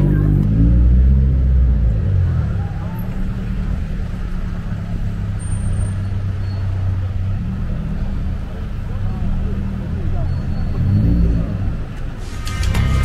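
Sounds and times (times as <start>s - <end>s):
road traffic rumble: 0.0s - 13.0s
vehicle engine running close: 0.0s - 13.0s.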